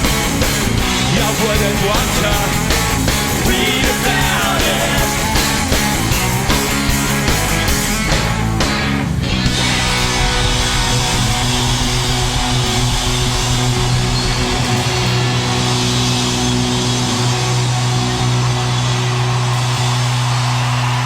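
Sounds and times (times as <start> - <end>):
drums: 0.0 - 21.0
distorted electric guitar chord: 0.1 - 20.6.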